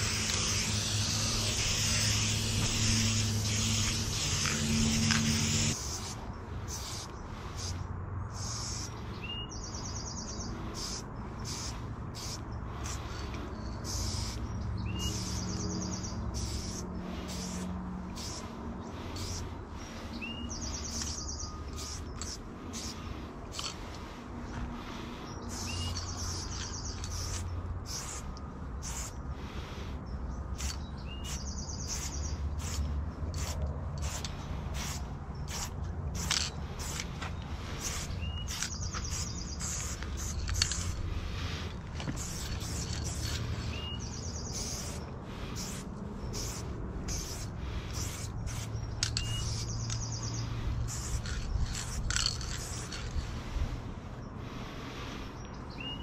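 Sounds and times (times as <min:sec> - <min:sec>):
spray paint can hissing: 0:00.0 - 0:24.2, 0:24.8 - 0:53.7
steady low rumble: 0:00.0 - 0:55.8.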